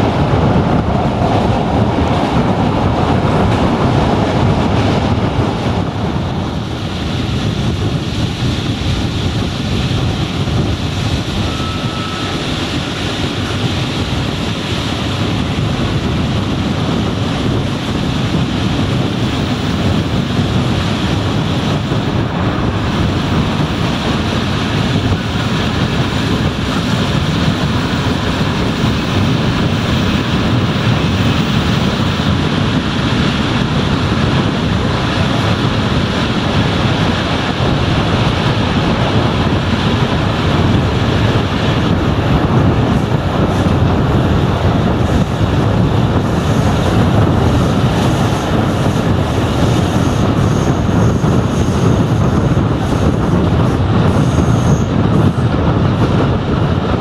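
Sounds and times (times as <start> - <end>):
train wheels rumbling on rails: 0.0 - 57.0
wind buffeting microphone: 0.0 - 57.0.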